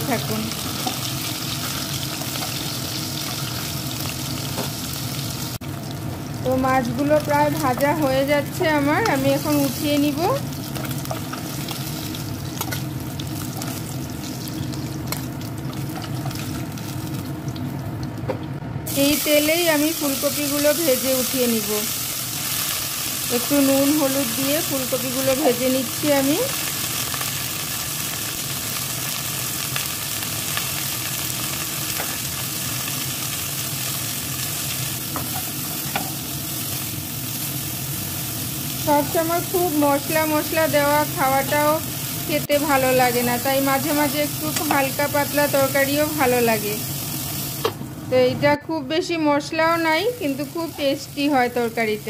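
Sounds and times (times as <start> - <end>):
fish sizzling in hot oil: 0.0 - 17.6, 18.9 - 47.8, 49.6 - 52.0.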